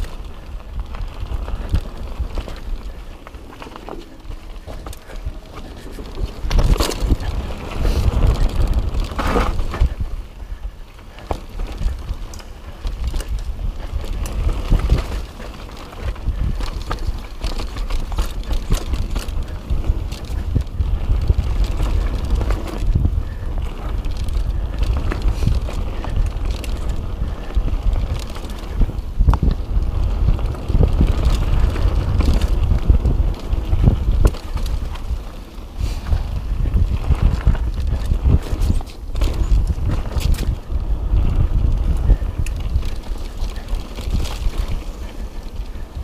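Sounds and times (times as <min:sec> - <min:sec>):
bike knocks and rattles: 0:00.0 - 0:46.0
bike tyres on dirt: 0:00.0 - 0:46.0
wind rumbling on microphone: 0:00.0 - 0:46.0.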